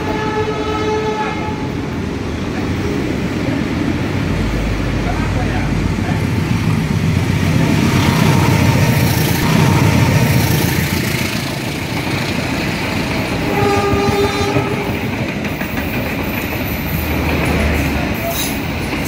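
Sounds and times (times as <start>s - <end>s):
diesel locomotive engine rumble: 0.0s - 19.0s
wheel noise on rails: 0.0s - 19.0s.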